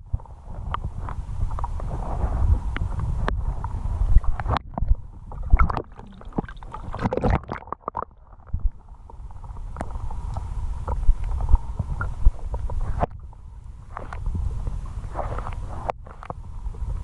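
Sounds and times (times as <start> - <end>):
wind rumble on microphone: 0.0 - 17.0
water splashing against kayak: 0.3 - 17.0.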